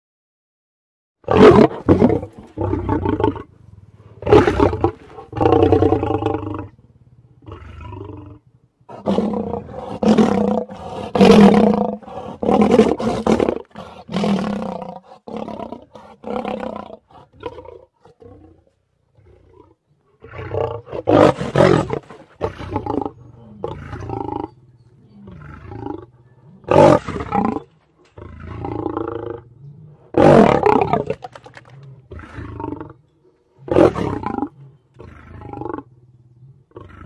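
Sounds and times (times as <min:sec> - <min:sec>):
lioness roaring: 0:01.2 - 0:33.0, 0:33.6 - 0:37.0.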